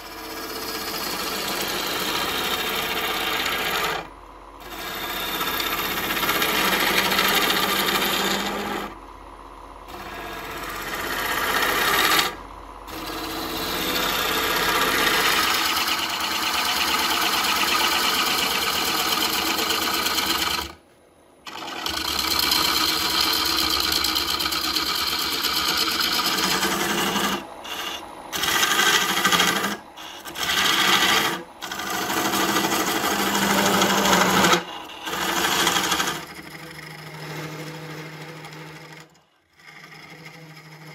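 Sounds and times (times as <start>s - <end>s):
wood lathe scraping: 0.0s - 9.0s, 9.9s - 20.8s, 21.5s - 40.9s.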